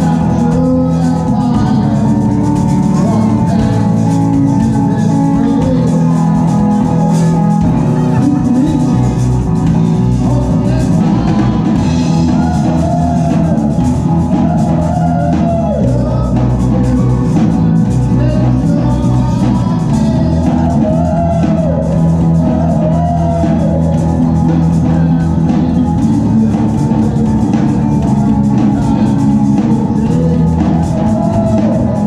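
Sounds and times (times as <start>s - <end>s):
drum kit: 0.0s - 32.0s
electric guitar: 0.0s - 32.0s
person singing: 0.0s - 32.0s.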